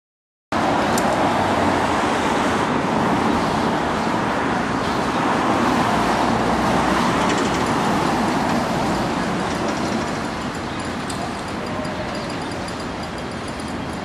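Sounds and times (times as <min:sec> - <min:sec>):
vehicle engines running: 0:00.6 - 0:14.0.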